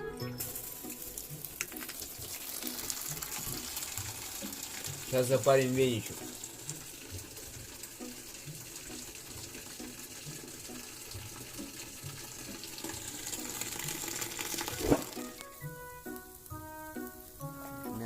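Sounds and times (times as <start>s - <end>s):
background music: 0.0s - 18.0s
water pouring and splashing: 0.4s - 17.8s.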